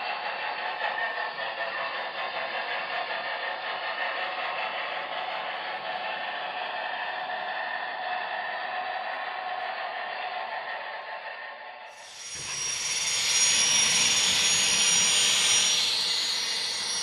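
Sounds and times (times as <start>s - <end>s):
model trains whirring: 0.0s - 17.0s.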